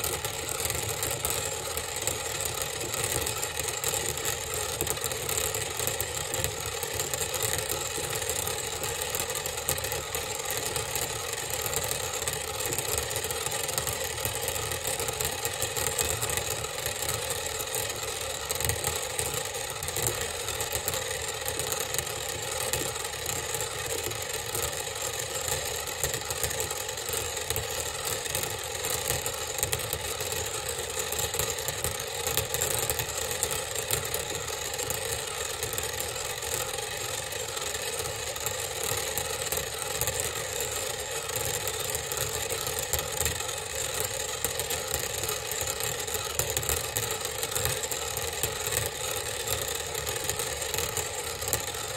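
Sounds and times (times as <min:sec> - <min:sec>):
stirrer motor whir: 0:00.0 - 0:51.9.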